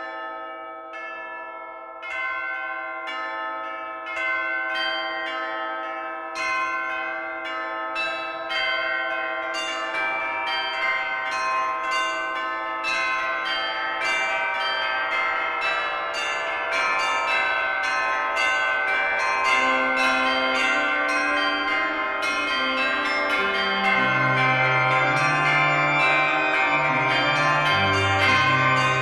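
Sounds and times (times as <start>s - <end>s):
bells ringing: 0.0s - 29.0s.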